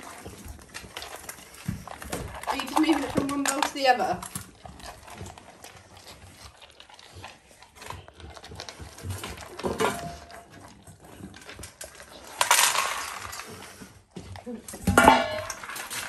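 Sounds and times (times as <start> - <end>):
dog crunching kibble: 0.0 - 16.0.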